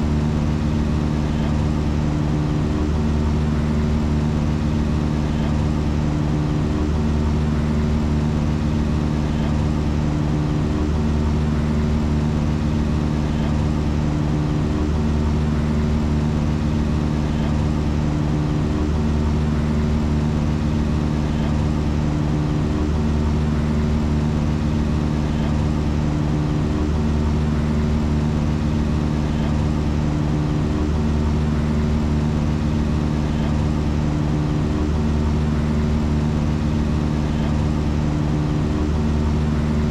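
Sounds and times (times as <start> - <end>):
low looping drone: 0.0 - 39.9.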